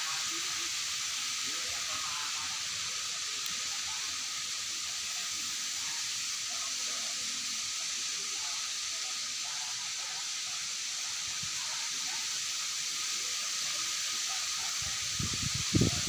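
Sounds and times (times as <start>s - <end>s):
faint chirps or distant voices: 0.0s - 16.0s
high-pitched hiss: 0.0s - 16.0s
thin steady whine: 0.0s - 16.0s.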